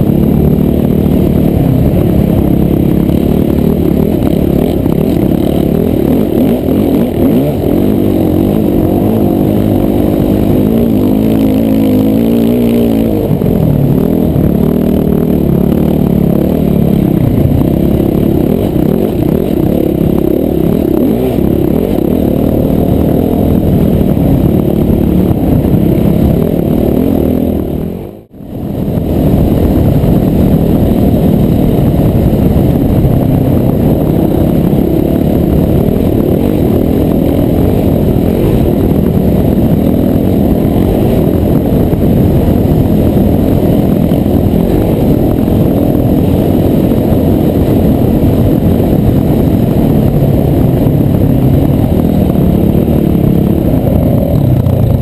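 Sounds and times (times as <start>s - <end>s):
dirt bike engine running: 0.0s - 55.0s
wind rush on microphone: 0.0s - 55.0s.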